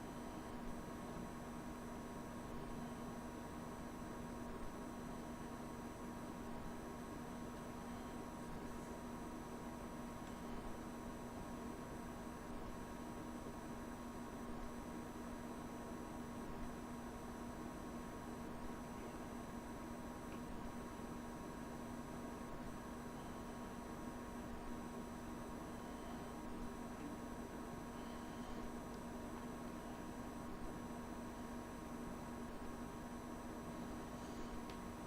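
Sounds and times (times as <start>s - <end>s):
electrical hum and hiss: 0.0s - 35.0s.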